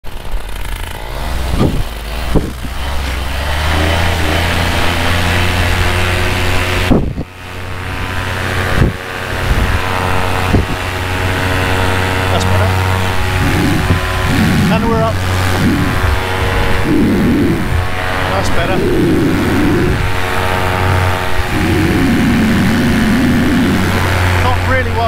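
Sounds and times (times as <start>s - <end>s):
paramotor engine revving: 0.1s - 25.0s.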